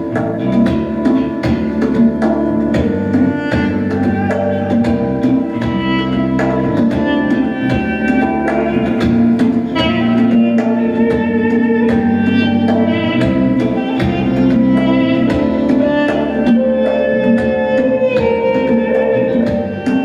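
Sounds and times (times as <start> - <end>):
bass: 0.0 - 20.0
conga beat: 0.0 - 20.0
duduk melody: 0.0 - 20.0
keyboard chords: 0.0 - 20.0.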